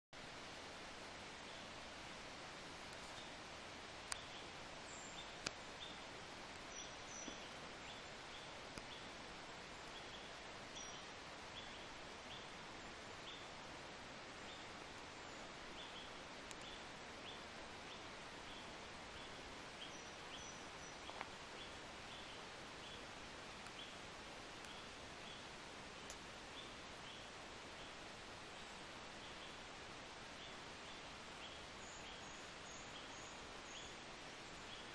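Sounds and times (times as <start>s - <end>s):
faint steady hiss: 0.2s - 34.9s.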